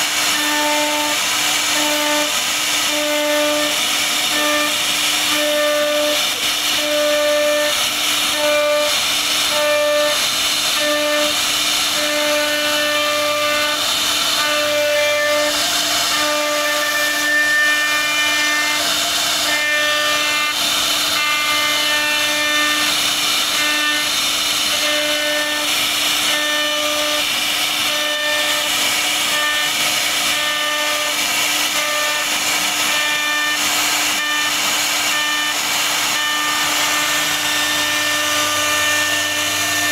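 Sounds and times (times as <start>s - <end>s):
bit cutting wood: 0.0s - 39.9s
router spindle whining: 0.0s - 39.9s.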